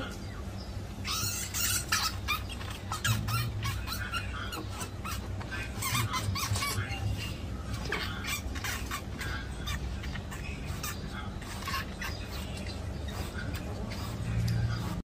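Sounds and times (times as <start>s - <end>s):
steady low hum: 0.0s - 15.0s
rat squeaking: 1.0s - 15.0s.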